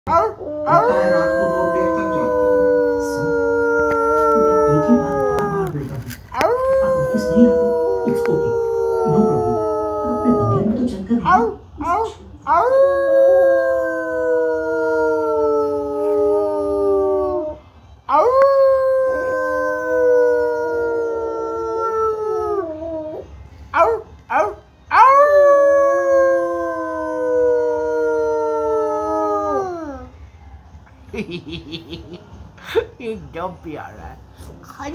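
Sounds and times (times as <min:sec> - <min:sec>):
dog howling: 0:00.1 - 0:30.2.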